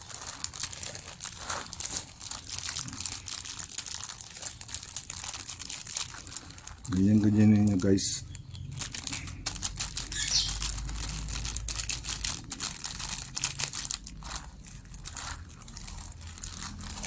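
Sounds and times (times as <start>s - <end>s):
pellets clicking in bag: 0.0s - 17.0s
plastic bag crinkling: 0.0s - 17.0s.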